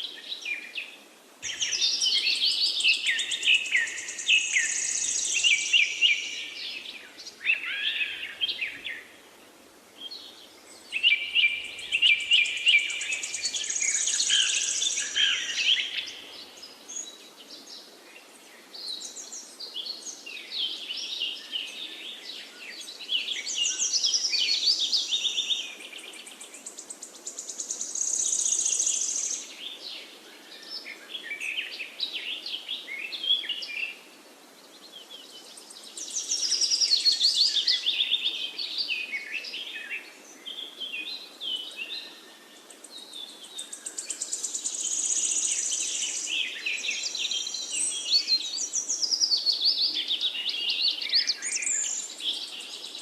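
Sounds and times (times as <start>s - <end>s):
faint background hiss: 0.0s - 53.0s
songbirds singing: 0.0s - 53.0s.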